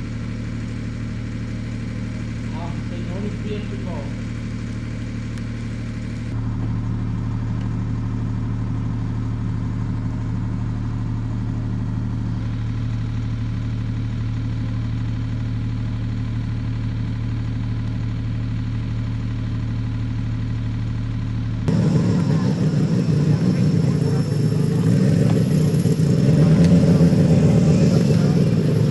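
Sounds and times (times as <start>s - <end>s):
radial engine idling: 0.0s - 28.9s.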